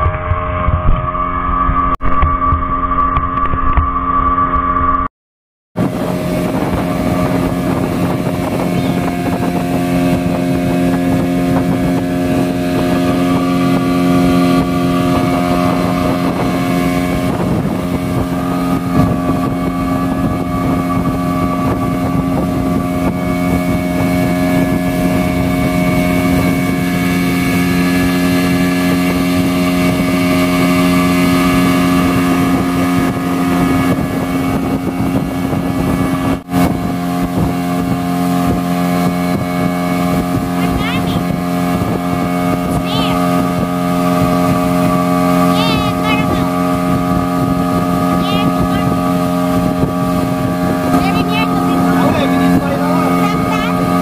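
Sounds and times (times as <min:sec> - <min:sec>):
speedboat engine droning: 0:00.0 - 0:05.1, 0:05.8 - 0:54.0.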